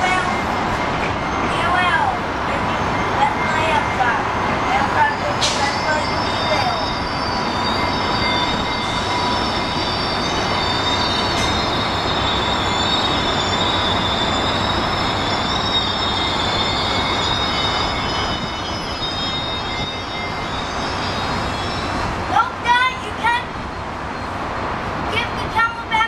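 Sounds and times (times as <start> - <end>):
train rumbling: 0.0 - 26.0
train wheels squealing: 0.0 - 26.0.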